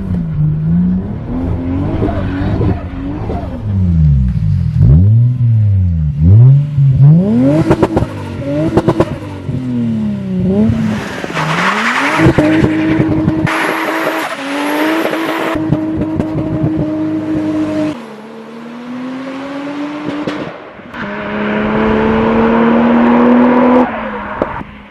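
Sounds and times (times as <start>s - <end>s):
car engine revving: 0.0s - 24.9s.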